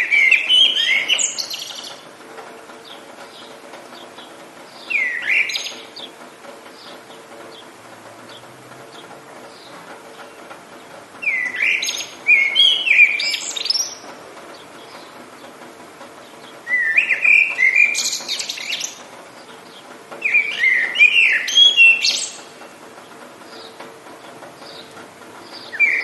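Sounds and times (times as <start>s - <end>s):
faint rain hiss: 0.0s - 26.0s
songbird singing: 0.0s - 26.0s.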